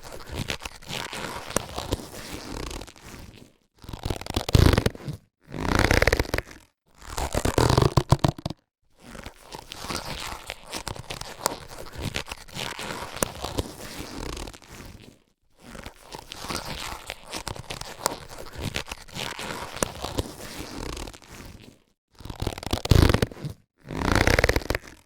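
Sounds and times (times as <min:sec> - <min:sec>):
latex gloves rustling and snapping: 0:00.0 - 0:05.2, 0:07.2 - 0:23.5.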